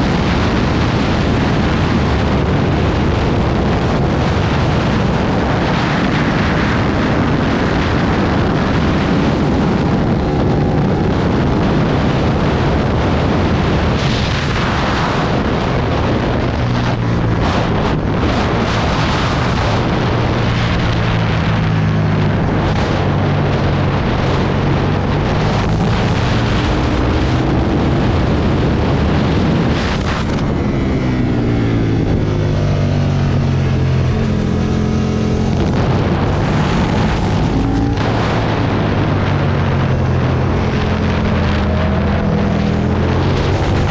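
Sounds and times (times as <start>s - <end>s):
motorcycle engine revving: 0.0s - 43.9s
wind rush on microphone: 0.0s - 43.9s.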